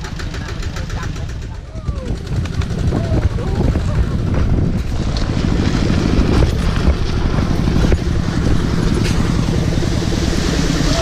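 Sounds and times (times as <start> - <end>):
tractor engine chugging: 0.0 - 11.0.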